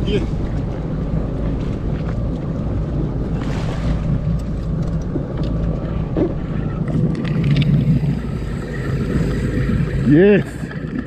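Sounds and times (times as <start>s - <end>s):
choppy water against hull: 0.0s - 11.0s
jet ski engine humming: 0.0s - 11.0s
wind buffeting microphone: 0.0s - 11.0s.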